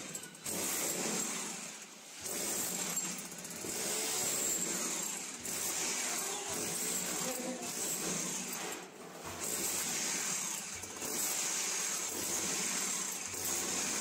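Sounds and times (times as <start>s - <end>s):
power drill boring into brick: 0.0s - 14.0s.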